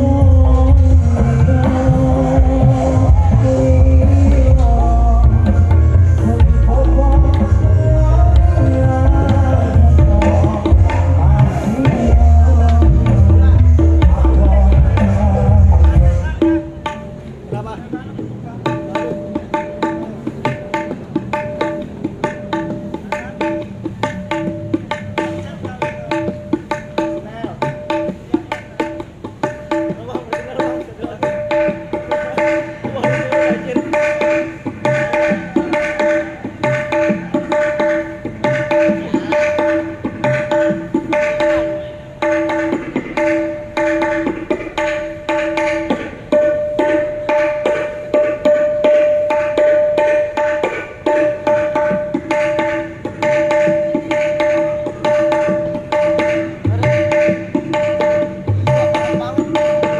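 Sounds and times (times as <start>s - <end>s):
hand drums playing fast rhythm: 0.0s - 59.9s.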